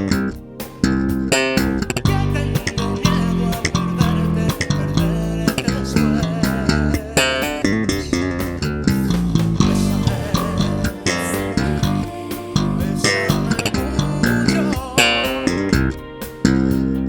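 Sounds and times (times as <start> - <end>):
electric bass guitar plucked notes: 0.0 - 17.0.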